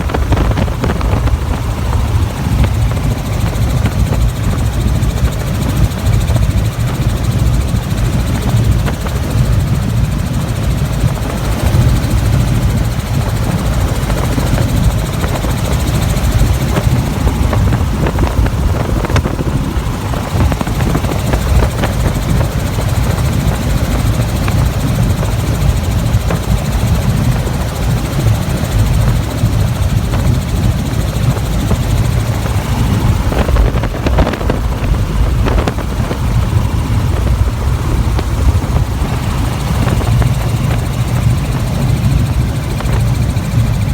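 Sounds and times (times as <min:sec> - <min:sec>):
helicopter rotor noise: 0:00.0 - 0:43.9.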